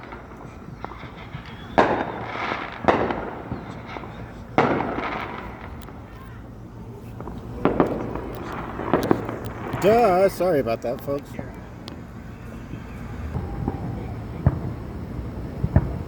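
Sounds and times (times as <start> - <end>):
faint fireworks crackles: 0.0 - 16.0
fireworks booming: 0.0 - 16.0.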